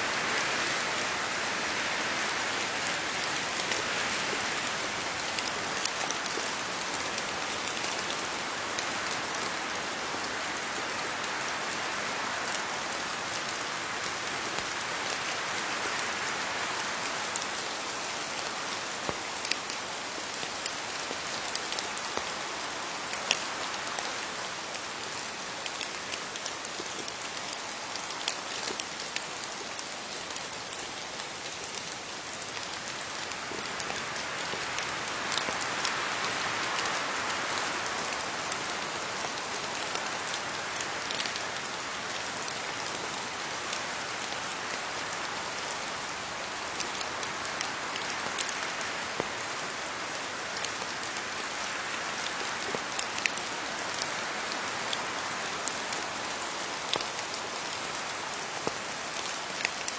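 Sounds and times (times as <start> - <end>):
rain pattering on leaves: 0.0 - 59.9
sharper raindrops: 0.0 - 59.9.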